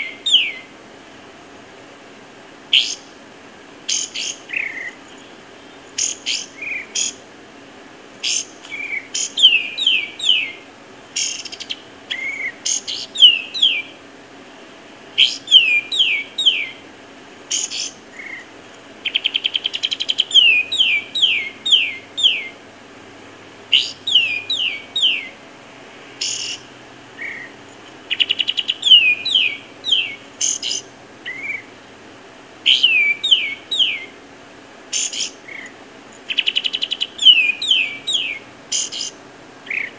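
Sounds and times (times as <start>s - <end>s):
bird calling: 0.0s - 0.8s, 2.6s - 7.4s, 8.2s - 14.3s, 15.1s - 25.5s, 26.2s - 31.8s, 32.6s - 34.2s, 34.9s - 39.9s
bird rattling trill: 2.6s - 14.4s, 15.1s - 23.1s, 23.7s - 25.4s, 26.2s - 31.7s, 32.4s - 39.9s.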